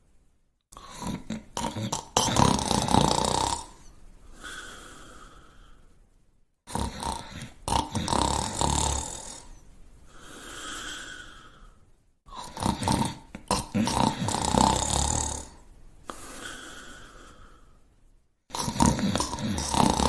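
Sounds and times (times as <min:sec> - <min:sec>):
person snoring: 0:00.7 - 0:05.8, 0:06.7 - 0:17.8, 0:18.5 - 0:20.0.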